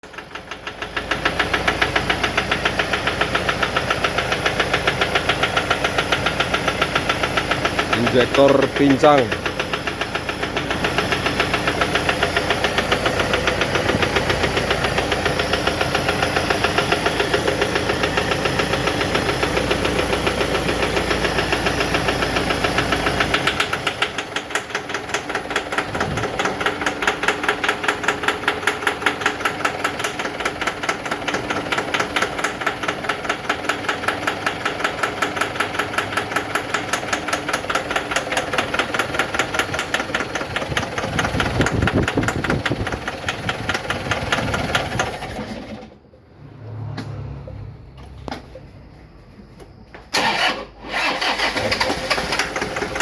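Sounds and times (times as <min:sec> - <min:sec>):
diesel engine idling with knocking: 0:00.0 - 0:46.3, 0:49.6 - 0:53.0.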